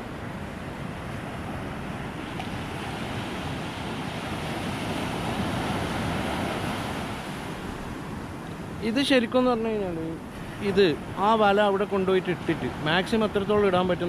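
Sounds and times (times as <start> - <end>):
sea surf washing: 0.0 - 14.0.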